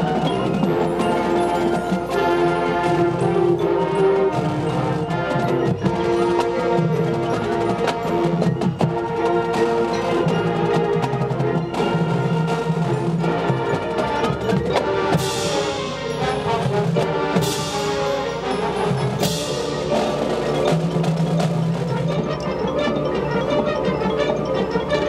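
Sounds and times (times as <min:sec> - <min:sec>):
marching band wind chords: 0:00.0 - 0:25.0
percussion: 0:00.0 - 0:25.0.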